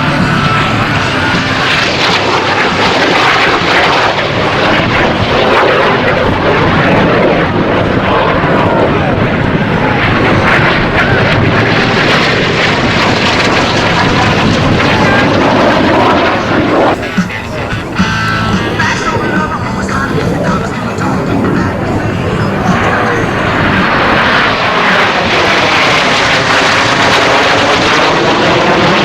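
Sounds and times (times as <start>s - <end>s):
jet aircraft flying past: 0.0s - 29.0s.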